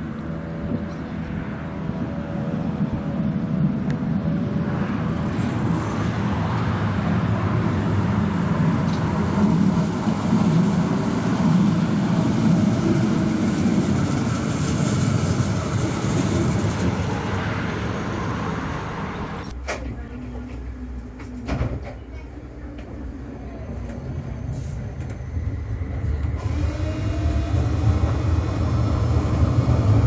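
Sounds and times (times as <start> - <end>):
tram wheels on rails: 0.0 - 30.0.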